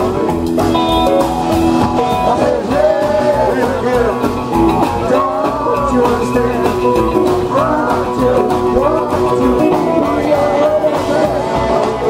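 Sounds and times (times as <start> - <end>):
double bass beat: 0.0 - 12.0
live rock and roll band: 0.0 - 12.0
person singing: 1.8 - 12.0.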